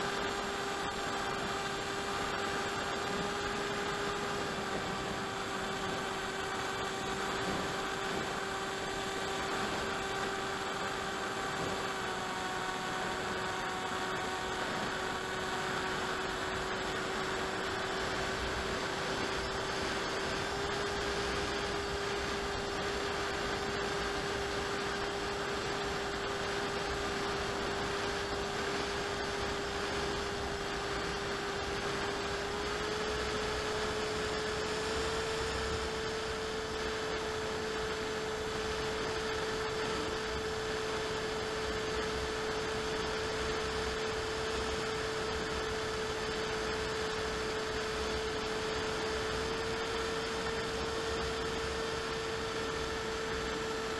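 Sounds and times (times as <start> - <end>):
electric motor and propeller whine: 0.0 - 53.9.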